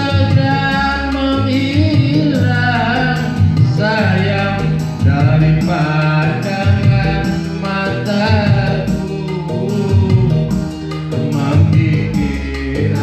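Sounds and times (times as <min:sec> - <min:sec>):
electric keyboard: 0:00.0 - 0:13.0
man singing pop ballad: 0:00.0 - 0:13.0
steady bass line: 0:00.0 - 0:13.0.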